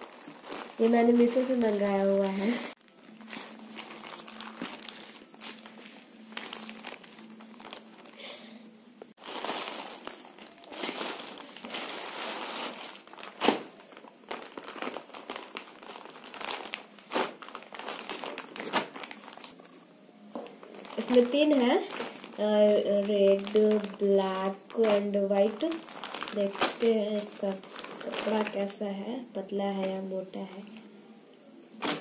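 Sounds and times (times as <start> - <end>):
plastic bag crinkling: 0.0 - 8.4, 9.2 - 30.9
sharp plastic crackle: 0.0 - 8.4, 9.2 - 28.9, 31.8 - 32.0.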